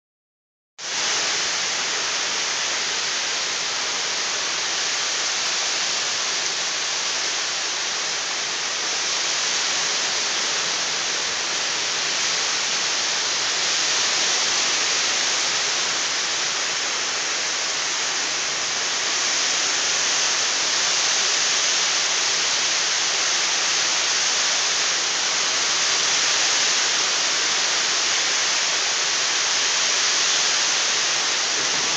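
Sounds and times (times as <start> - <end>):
heavy rain pouring: 0.8 - 31.9.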